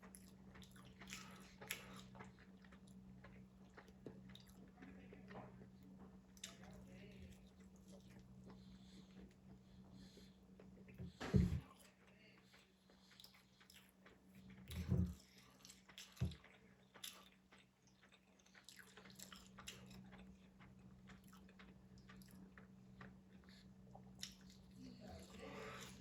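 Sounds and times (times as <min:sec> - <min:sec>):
chewing and biting sandwich: 0:00.0 - 0:26.0.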